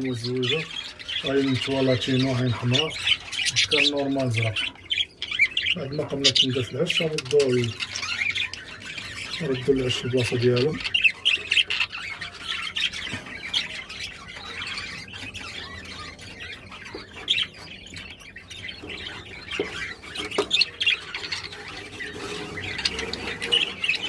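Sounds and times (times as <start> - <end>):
budgerigars chattering and squawking: 0.0 - 24.0.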